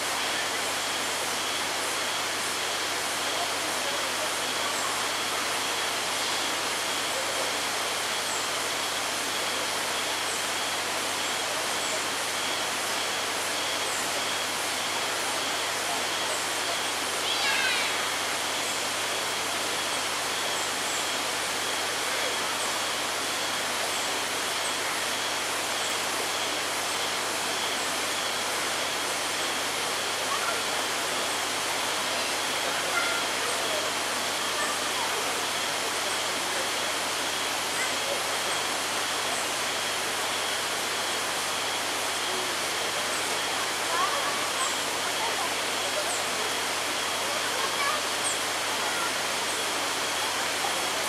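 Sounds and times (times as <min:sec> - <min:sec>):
rushing of flowing water: 0:00.0 - 0:51.0.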